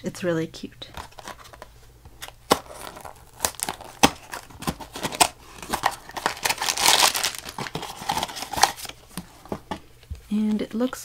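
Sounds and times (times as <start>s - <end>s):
cardboard tearing and crinkling: 1.0s - 9.8s.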